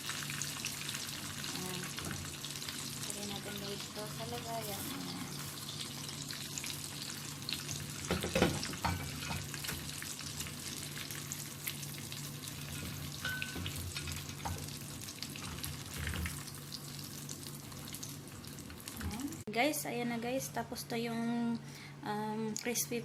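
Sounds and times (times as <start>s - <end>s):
fish frying in hot oil: 0.0s - 19.4s.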